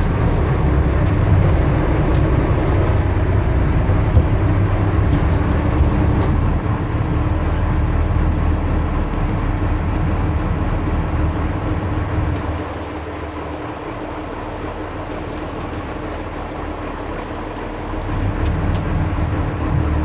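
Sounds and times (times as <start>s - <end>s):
boat engine rumbling: 0.0s - 20.0s.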